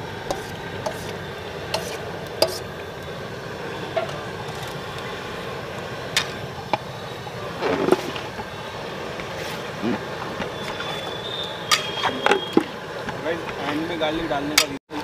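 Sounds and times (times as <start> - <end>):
steady rushing background noise: 0.0 - 15.0.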